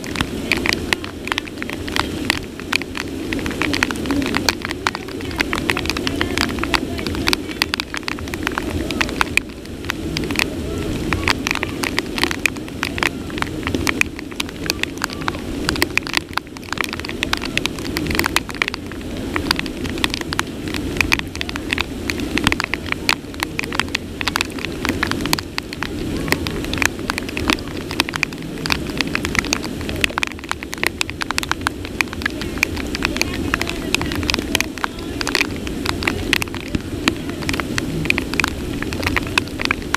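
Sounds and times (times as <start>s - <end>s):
heavy rain pouring: 0.0s - 39.9s
raindrops pattering close: 0.0s - 39.9s.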